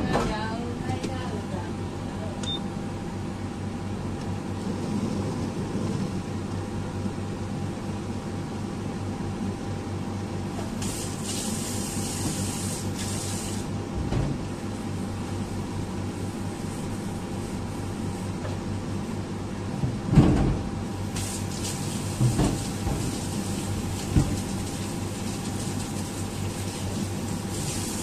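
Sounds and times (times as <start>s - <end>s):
induction cooktop hum: 0.0s - 28.0s.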